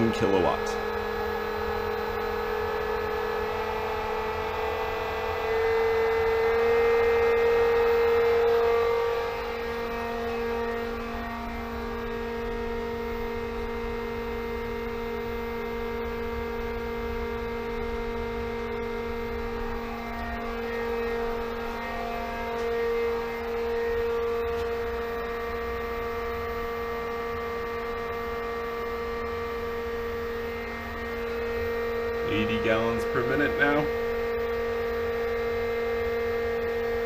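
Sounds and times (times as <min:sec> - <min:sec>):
pool pump motor whine: 0:00.0 - 0:37.0.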